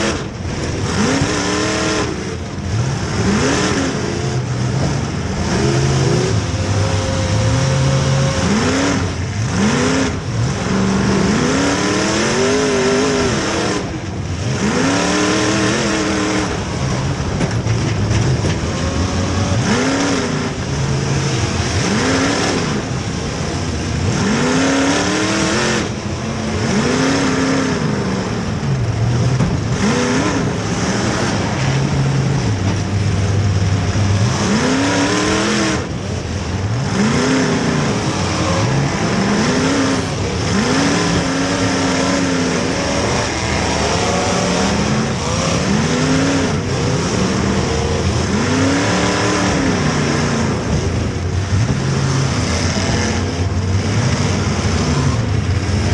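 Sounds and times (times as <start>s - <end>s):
car engines revving: 0.0s - 55.9s
constant noisy din: 0.0s - 55.9s.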